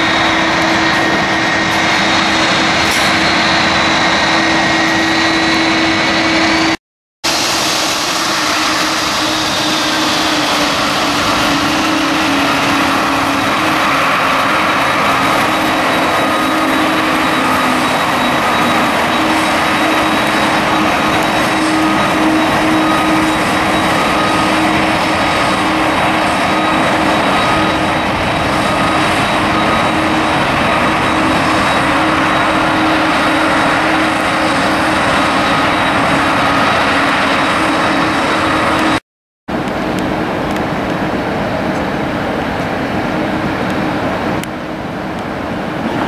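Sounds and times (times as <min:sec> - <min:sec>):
jet engines whining: 0:00.0 - 0:46.0.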